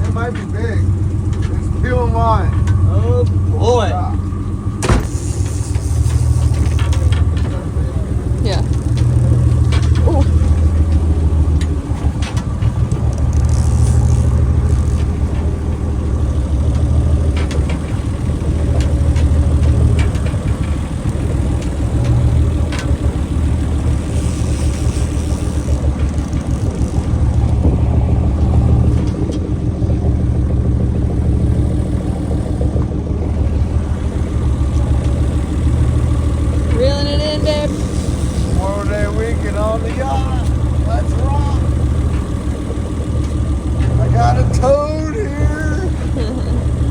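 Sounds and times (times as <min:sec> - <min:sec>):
boat engine idling: 0:00.0 - 0:46.9.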